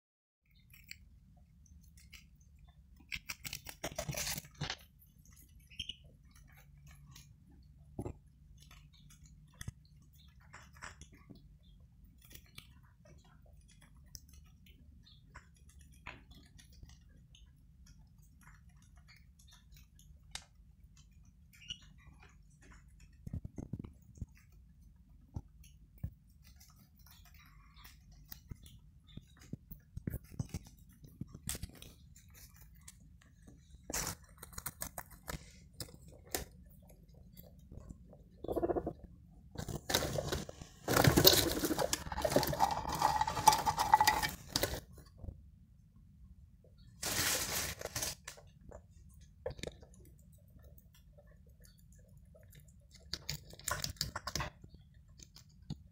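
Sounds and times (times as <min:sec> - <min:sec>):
guinea pigs chewing lettuce: 0:00.4 - 0:55.9.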